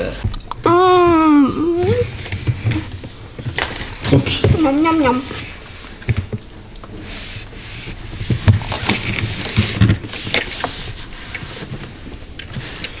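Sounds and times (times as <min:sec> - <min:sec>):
handling rubbing and rustling: 0:01.7 - 0:13.0.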